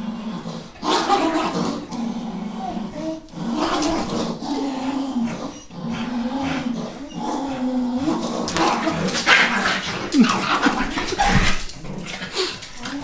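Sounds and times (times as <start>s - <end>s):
dog play growling: 0.0s - 13.0s.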